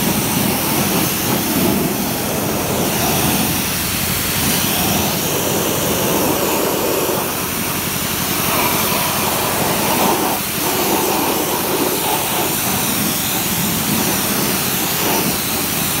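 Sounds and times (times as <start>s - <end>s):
water jet spray hissing: 0.0s - 16.0s.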